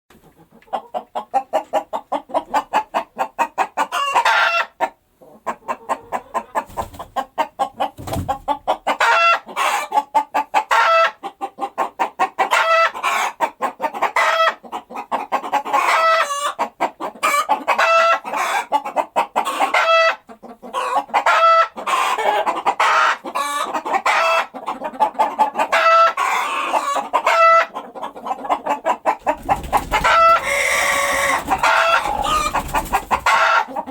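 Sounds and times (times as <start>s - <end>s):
hen clucking: 0.1s - 33.9s.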